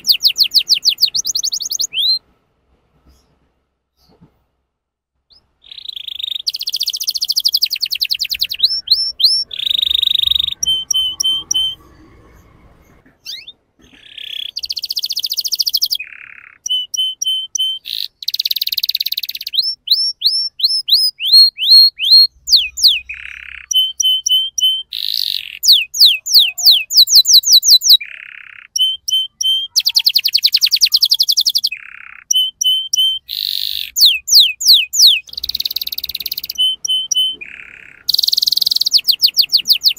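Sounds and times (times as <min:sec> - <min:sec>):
canary singing: 0:00.0 - 0:02.2, 0:05.3 - 0:39.9.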